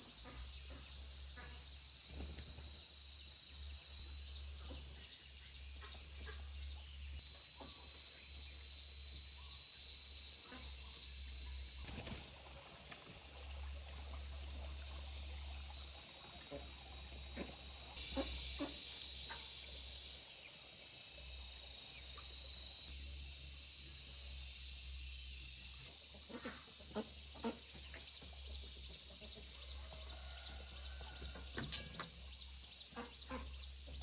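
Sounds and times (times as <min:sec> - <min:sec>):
high-pitched hiss: 0:00.0 - 0:33.9.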